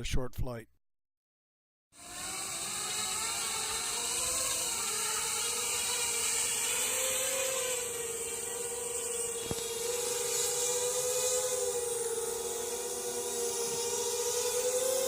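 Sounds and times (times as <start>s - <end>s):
drone propellers whirring: 2.0s - 15.0s.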